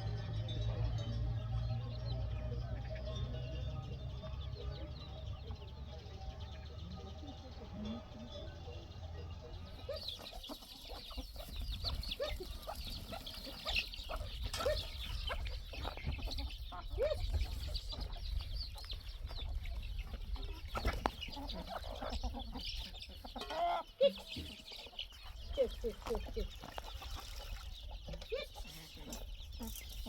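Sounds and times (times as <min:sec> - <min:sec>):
chickens clucking: 0:00.0 - 0:30.0
chicks peeping: 0:00.0 - 0:30.0.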